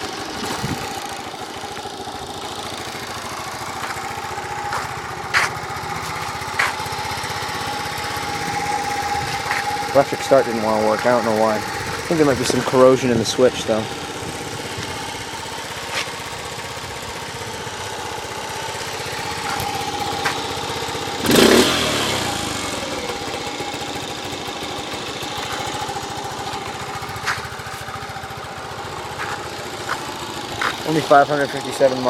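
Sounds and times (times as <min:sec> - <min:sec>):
engine revving: 0:00.0 - 0:32.0
motorcycle engine idling: 0:00.0 - 0:32.0.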